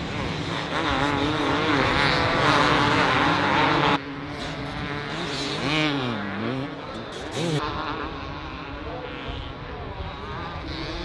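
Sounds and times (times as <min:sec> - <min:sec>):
motocross bikes revving: 0:00.0 - 0:11.0.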